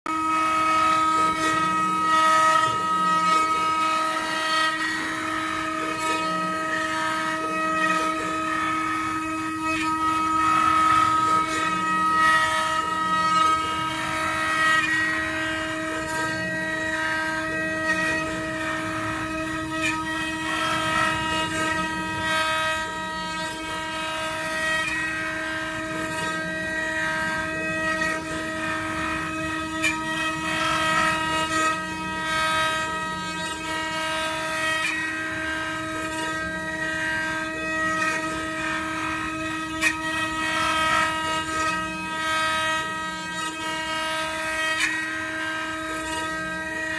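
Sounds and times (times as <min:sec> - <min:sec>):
cutters carving wood: 0:00.1 - 0:46.9
router spindles whining: 0:00.1 - 0:46.9.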